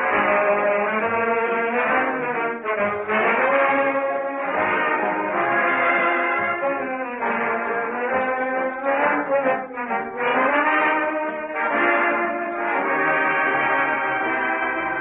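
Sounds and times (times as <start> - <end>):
brass gliding sustained notes: 0.0 - 15.0.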